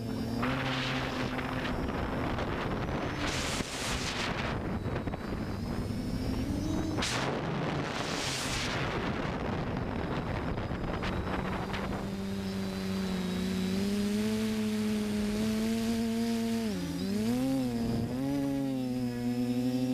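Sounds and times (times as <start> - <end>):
quadcopter motors humming: 0.0 - 19.9
wind gusting on microphone: 0.0 - 19.9.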